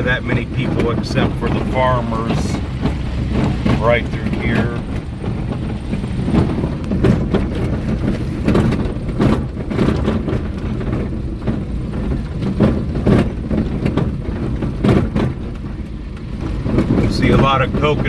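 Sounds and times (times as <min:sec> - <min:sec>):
knocks and rattles over bumps: 0:00.0 - 0:18.0
vehicle driving on dirt road: 0:00.0 - 0:18.0.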